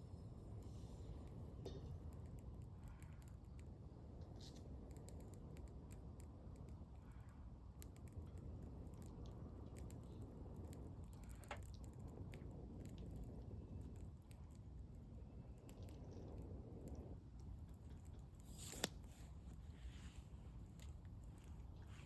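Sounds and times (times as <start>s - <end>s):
campfire crackling: 3.3s - 22.0s.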